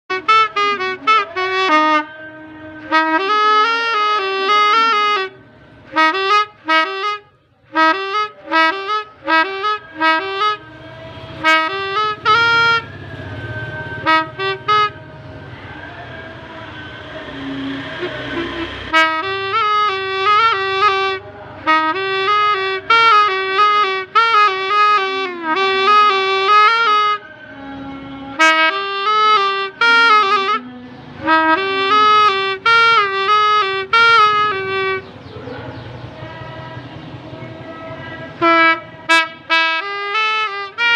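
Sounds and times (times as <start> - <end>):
toy horn tooting a melody: 0.1 - 15.0, 17.3 - 35.2, 38.3 - 40.9.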